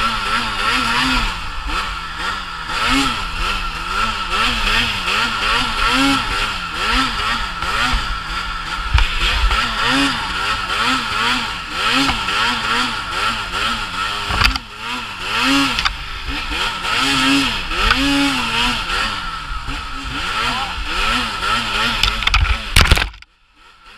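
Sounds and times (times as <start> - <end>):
snowmobile engine revving: 0.0 - 23.9.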